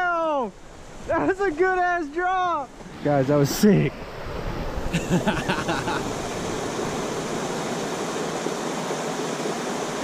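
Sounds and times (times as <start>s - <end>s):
river rapids rushing: 0.6s - 10.0s.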